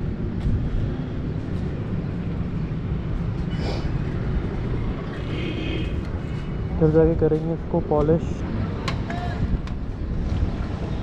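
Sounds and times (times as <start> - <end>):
low rumble of vehicle noise: 0.0 - 11.0.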